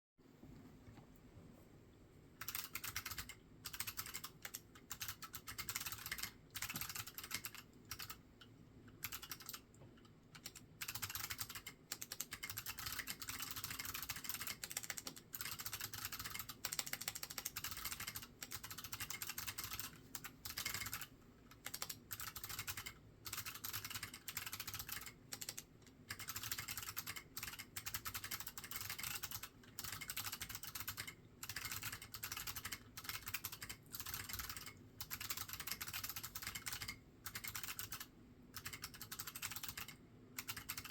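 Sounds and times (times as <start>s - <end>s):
clicky keyboard typing: 2.4s - 40.9s.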